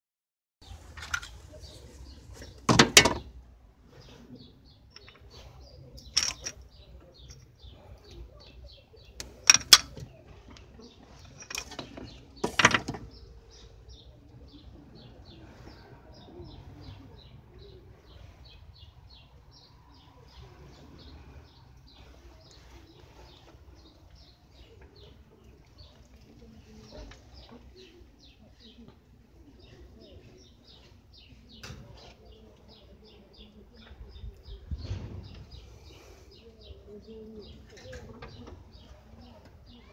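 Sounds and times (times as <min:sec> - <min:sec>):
bird chirping: 0:03.9 - 0:39.9.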